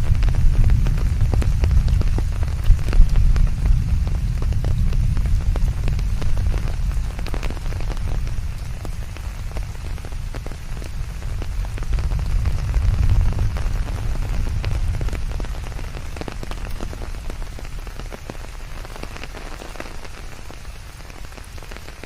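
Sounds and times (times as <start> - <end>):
deep steady rumbling noise: 0.0 - 22.0
rain falling steadily: 0.0 - 22.0
raindrops clicking close by: 0.0 - 22.0
white noise: 0.0 - 22.0.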